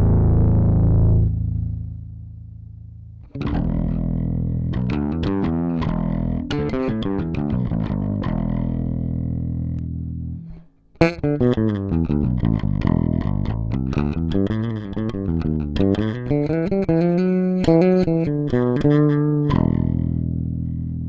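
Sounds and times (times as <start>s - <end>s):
clean electric bass notes: 0.0s - 21.0s
distorted electric bass: 0.0s - 21.0s.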